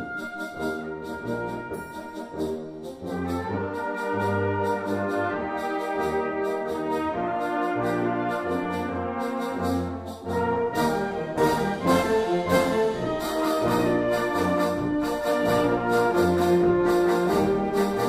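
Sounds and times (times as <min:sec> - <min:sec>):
flugelhorn melody: 0:00.0 - 0:18.0
low brass bass notes: 0:00.0 - 0:18.0
wind band playing: 0:00.0 - 0:18.0.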